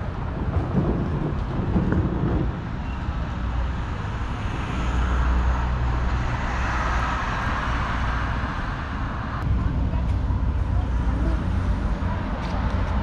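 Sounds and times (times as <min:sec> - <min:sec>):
roadside traffic: 0:00.0 - 0:13.0
vehicle engine rumble: 0:00.0 - 0:13.0.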